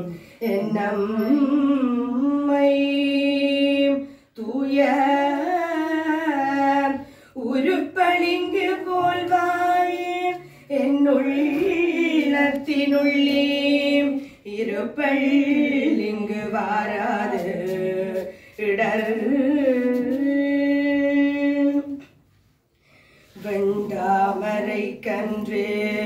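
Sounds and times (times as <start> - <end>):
woman singing a hymn: 0.0 - 22.1, 23.3 - 26.0.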